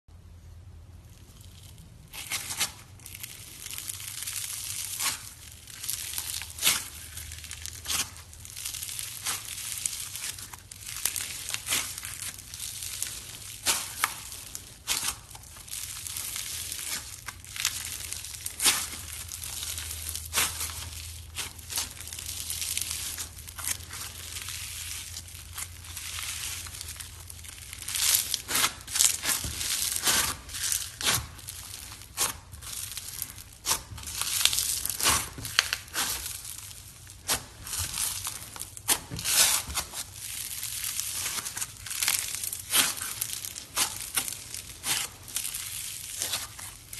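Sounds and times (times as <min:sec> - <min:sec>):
foam beads crackling and popping: 0:01.0 - 0:46.9.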